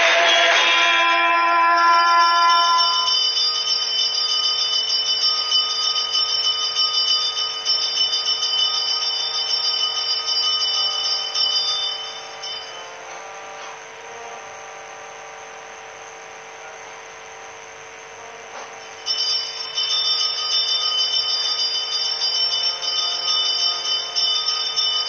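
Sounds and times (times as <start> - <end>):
bell ringing rapidly: 0.0 - 14.0, 18.5 - 25.0.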